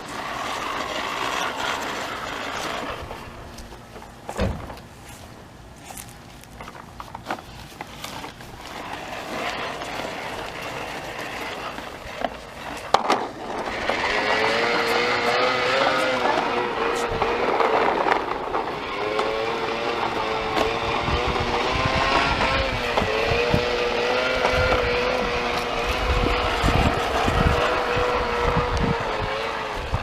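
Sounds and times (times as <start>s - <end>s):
toy lawn mower rattling: 0.0s - 4.4s, 5.0s - 30.0s.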